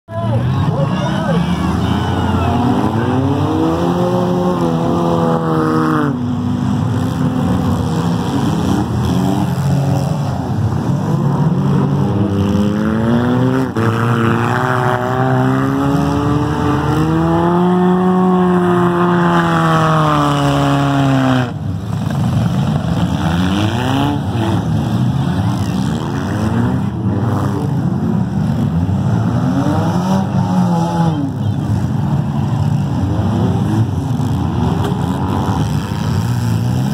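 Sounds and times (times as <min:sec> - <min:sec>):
car engines revving hard: 0:00.1 - 0:36.9.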